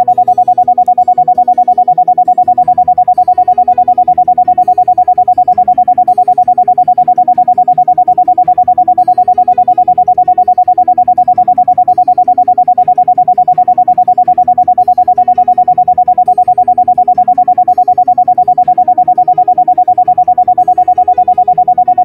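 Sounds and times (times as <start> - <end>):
pulsing high tone: 0.0 - 22.0
soft background music: 0.0 - 22.0.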